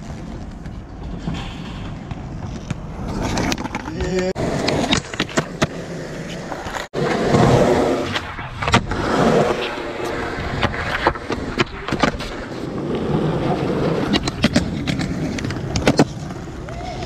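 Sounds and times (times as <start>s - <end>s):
skateboard wheels rolling on concrete: 0.0s - 17.0s.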